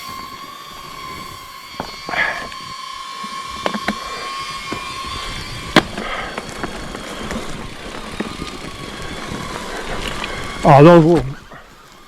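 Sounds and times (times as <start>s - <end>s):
steady high whine: 0.0s - 12.0s
twigs cracking and snapping: 0.1s - 12.0s.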